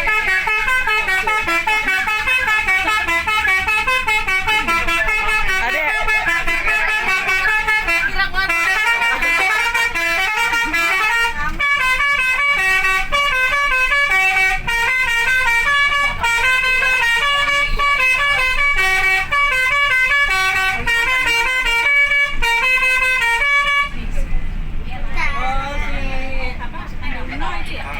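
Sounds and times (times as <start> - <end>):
multi-tone air horn tune: 0.0 - 24.0.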